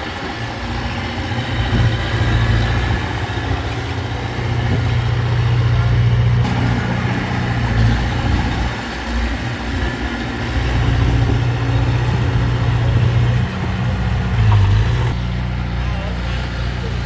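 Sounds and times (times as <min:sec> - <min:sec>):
heavy machine diesel engine running: 0:00.0 - 0:17.0.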